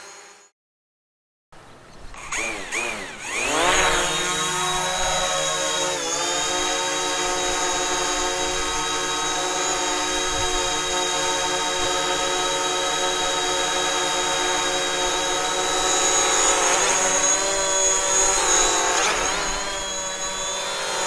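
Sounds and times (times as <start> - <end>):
drone propellers whining: 2.2 - 21.0.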